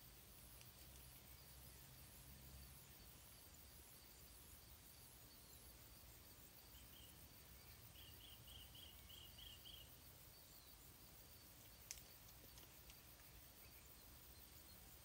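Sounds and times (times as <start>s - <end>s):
faint background hiss: 0.0s - 15.0s
faint high chirps: 0.0s - 15.0s.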